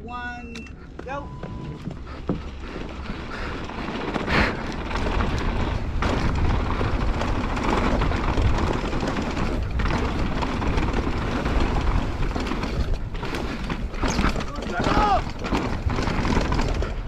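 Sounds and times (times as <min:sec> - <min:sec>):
bike chain and frame rattling: 0:01.7 - 0:17.0
tyres crunching on dirt: 0:01.9 - 0:17.0.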